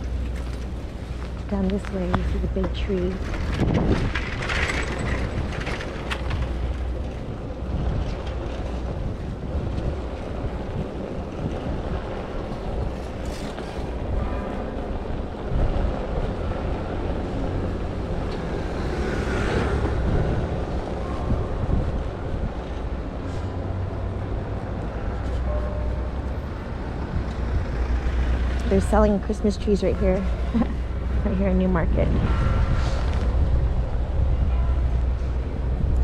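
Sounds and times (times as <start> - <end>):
wind buffeting microphone: 0.0 - 25.4, 26.0 - 36.0
road noise: 0.0 - 36.0.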